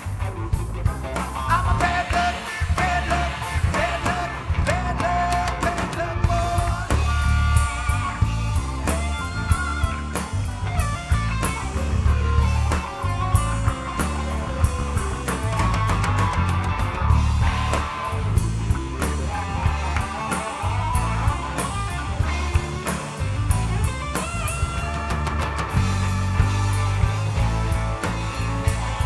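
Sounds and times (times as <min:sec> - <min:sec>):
bass guitar: 0:00.0 - 0:29.0
drum kit with cymbals: 0:00.0 - 0:29.0
electric guitar lead: 0:00.0 - 0:29.0.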